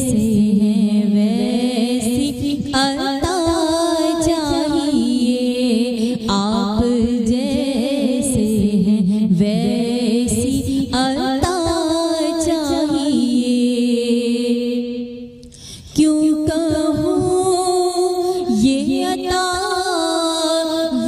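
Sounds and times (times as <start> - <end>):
woman singing devotional song: 0.0 - 21.0.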